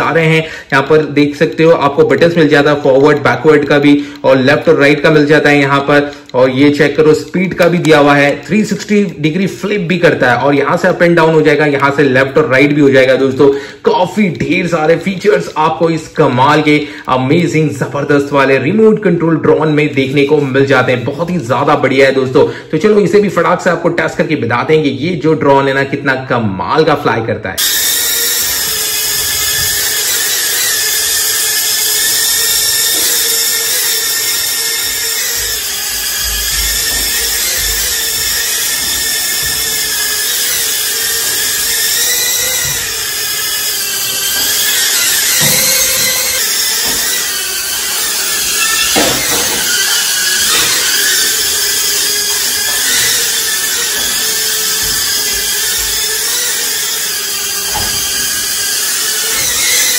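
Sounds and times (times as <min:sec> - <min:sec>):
toy drone propellers whining: 0:00.0 - 0:23.6, 0:27.6 - 0:59.9.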